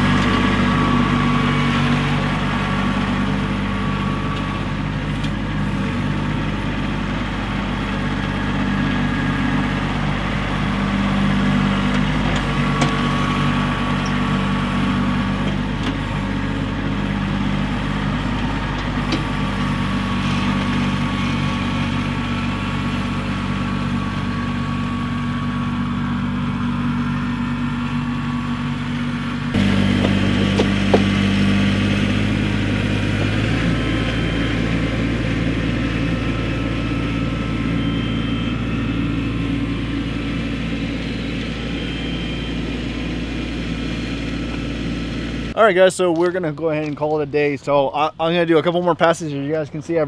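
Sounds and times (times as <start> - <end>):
diesel tractor engine running: 0.0 - 50.0.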